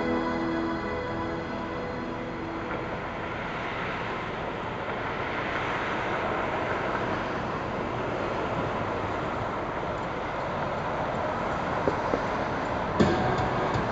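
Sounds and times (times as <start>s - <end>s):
road traffic: 0.0s - 13.9s.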